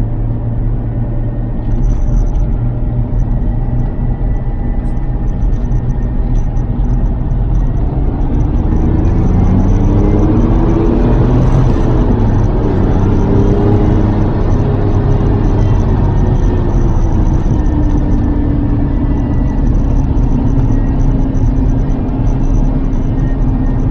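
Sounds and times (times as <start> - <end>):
car engine revving: 0.0 - 23.9
road noise rumble: 0.0 - 23.9.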